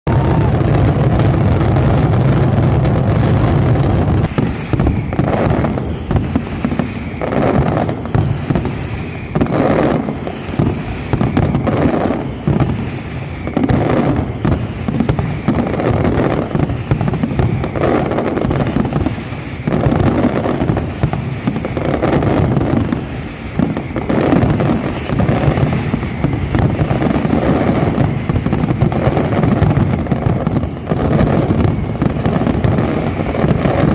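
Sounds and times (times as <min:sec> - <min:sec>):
fireworks bangs and explosions: 0:00.0 - 0:33.9.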